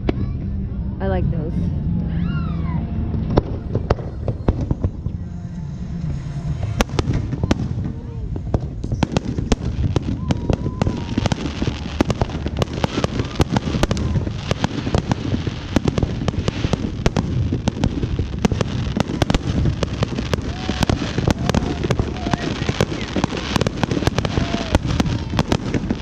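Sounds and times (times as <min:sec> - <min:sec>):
low rumble: 0:00.0 - 0:26.0
fireworks bangs and crackles: 0:03.0 - 0:26.0.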